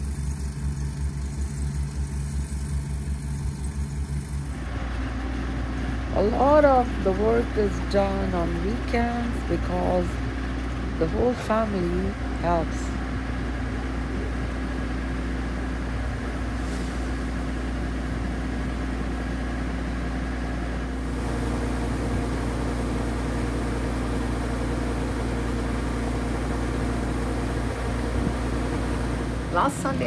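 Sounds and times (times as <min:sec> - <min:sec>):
farm machinery engine humming: 0:00.0 - 0:30.0.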